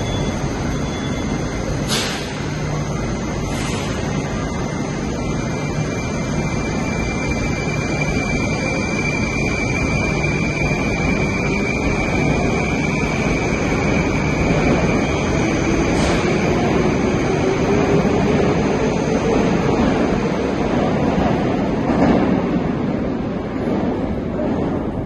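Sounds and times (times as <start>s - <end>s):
metro train noise: 0.0s - 25.0s.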